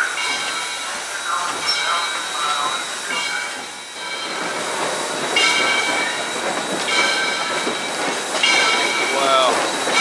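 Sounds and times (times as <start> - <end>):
steam locomotive hissing and running: 0.0 - 10.0.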